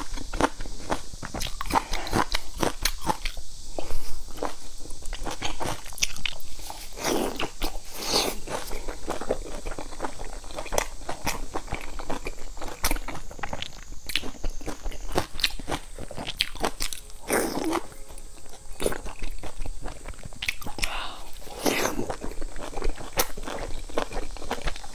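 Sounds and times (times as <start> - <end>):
chewing soft dumpling: 0.0 - 24.9.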